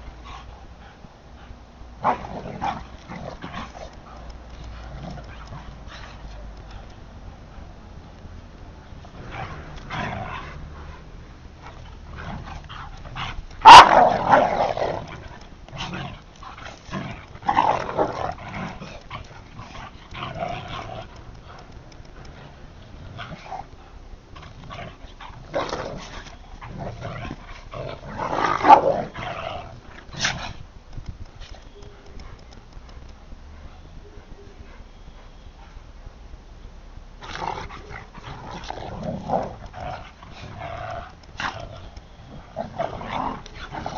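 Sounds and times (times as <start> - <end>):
dogs play-fighting and vocalizing: 0.0 - 36.3, 37.2 - 43.9.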